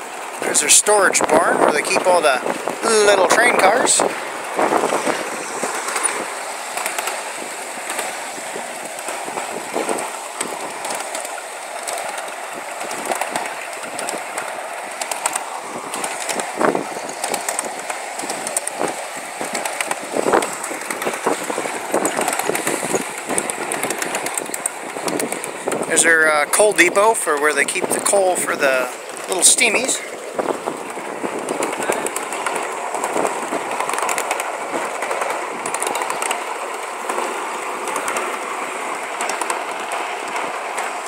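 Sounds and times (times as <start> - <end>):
clicks over rail joints: 0.0 - 41.0
miniature train rolling on rails: 0.0 - 41.0.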